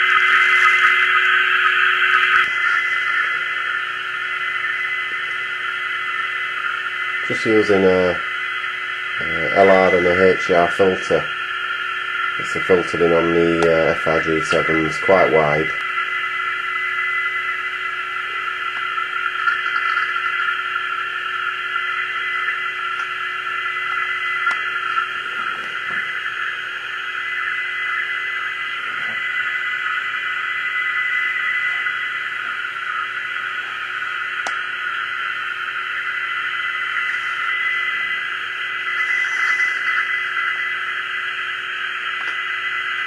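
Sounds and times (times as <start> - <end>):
radio hiss: 0.0 - 43.0.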